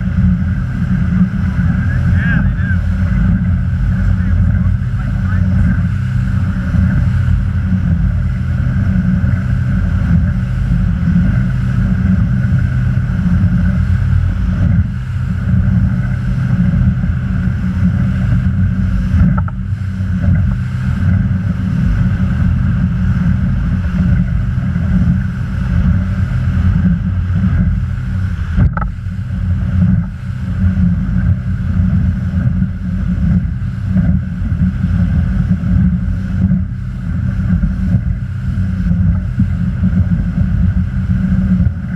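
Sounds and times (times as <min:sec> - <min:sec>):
motorboat engine running: 0:00.0 - 0:41.9
water noise: 0:00.0 - 0:41.9
wind rumble on microphone: 0:00.0 - 0:41.9.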